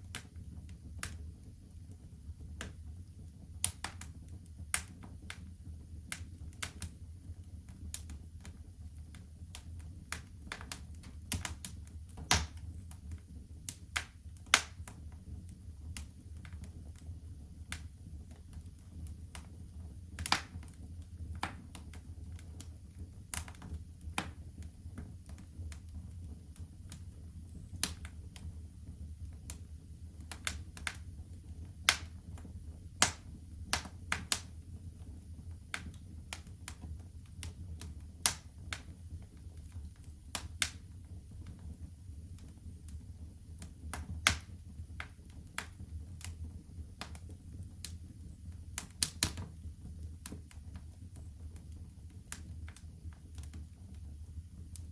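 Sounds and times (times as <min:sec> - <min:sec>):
low rumble of burning: 0:00.0 - 0:54.9
wood fire crackling: 0:00.0 - 0:54.9.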